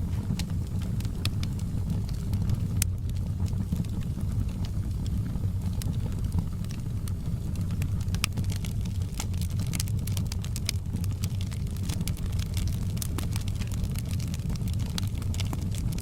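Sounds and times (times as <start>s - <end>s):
steady low rumble: 0.0s - 16.0s
wood fire crackling: 0.0s - 16.0s.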